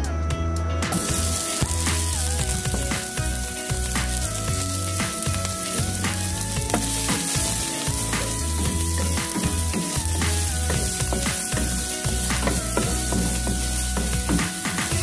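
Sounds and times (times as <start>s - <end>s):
background music: 0.0s - 15.0s
sausage sizzling in oil: 0.9s - 15.0s.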